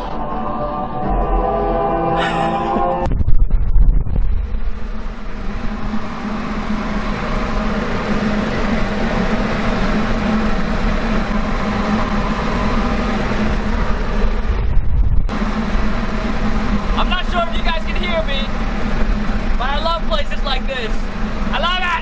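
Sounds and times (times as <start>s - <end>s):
low fan hum: 0.0s - 22.0s
wind rushing from blower: 2.1s - 22.0s.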